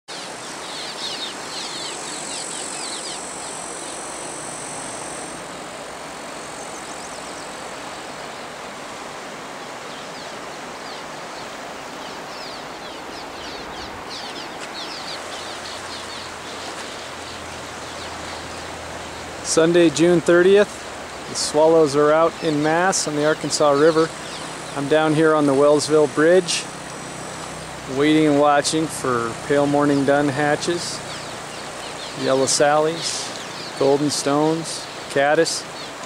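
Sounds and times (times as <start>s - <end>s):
swallows chirping: 0.1s - 5.4s, 9.6s - 36.0s
river rushing: 0.1s - 36.0s.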